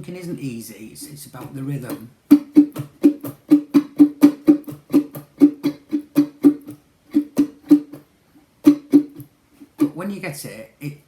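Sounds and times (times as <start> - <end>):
ukulele strumming: 0.0 - 10.3.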